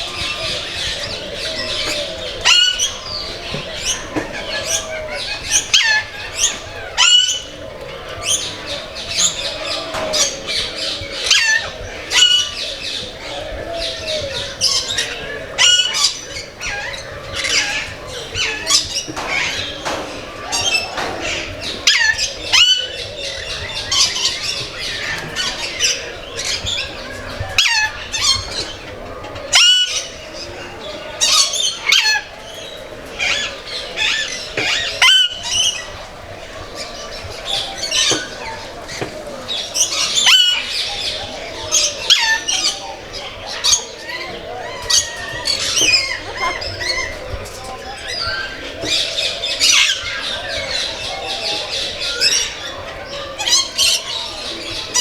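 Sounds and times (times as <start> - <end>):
birds squawking and chirping: 0.0 - 55.0.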